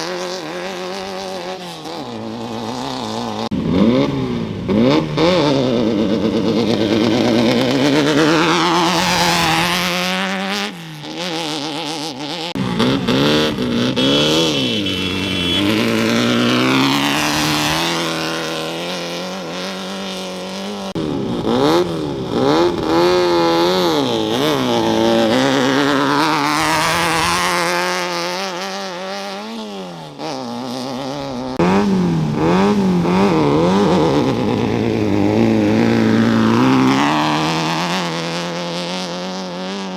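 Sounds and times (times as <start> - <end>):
off-road trucks revving and accelerating: 0.0 - 39.9.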